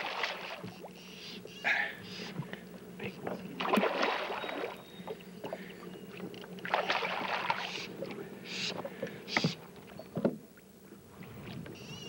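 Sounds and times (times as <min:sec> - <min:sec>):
water splashing and sloshing: 0:00.0 - 0:11.8.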